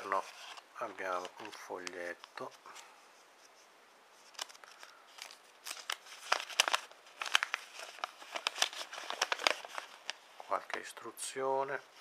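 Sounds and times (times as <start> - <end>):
paper crinkling and rustling: 0.0 - 3.6, 4.2 - 12.0.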